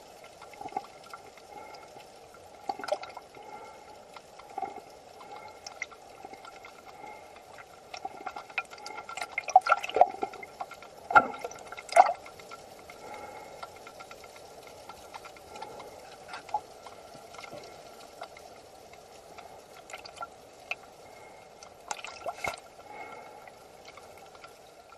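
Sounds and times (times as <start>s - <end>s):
muffled underwater wash: 0.0s - 24.9s
small underwater clicks: 0.0s - 24.9s.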